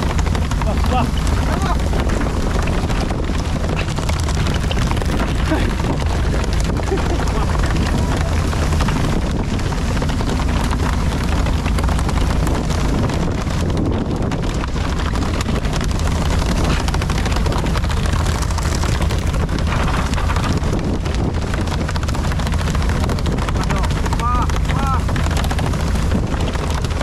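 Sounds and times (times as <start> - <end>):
boat engine running: 0.0 - 27.0
wind buffeting microphone: 0.0 - 27.0.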